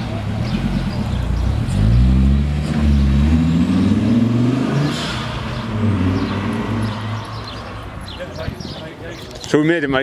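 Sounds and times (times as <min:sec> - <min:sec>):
car engine accelerating: 0:00.0 - 0:08.1.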